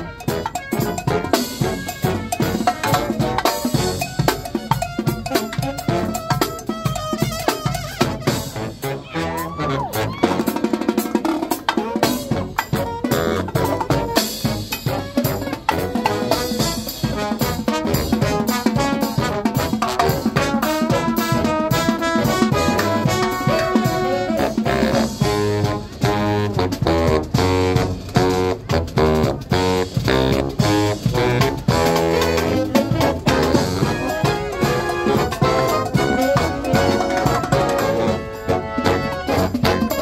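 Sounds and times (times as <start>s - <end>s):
steady drum beat: 0.0s - 8.8s, 10.0s - 40.0s
marching band playing: 0.0s - 40.0s.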